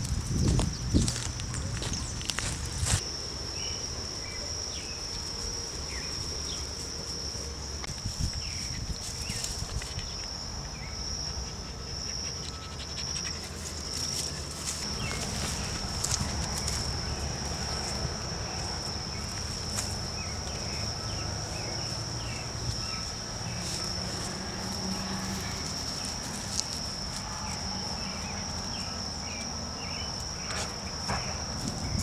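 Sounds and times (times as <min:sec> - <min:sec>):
insect trilling: 0:00.5 - 0:32.0.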